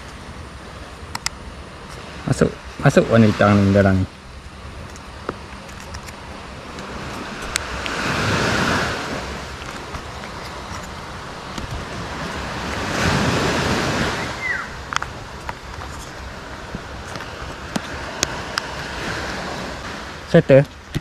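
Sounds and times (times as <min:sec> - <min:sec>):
sea waves washing onto beach: 0:00.0 - 0:21.0.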